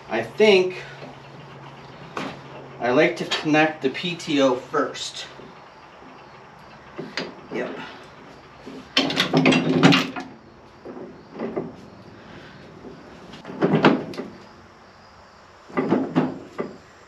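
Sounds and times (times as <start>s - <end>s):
metal driveshaft clunking: 0.0s - 14.8s, 15.6s - 17.0s.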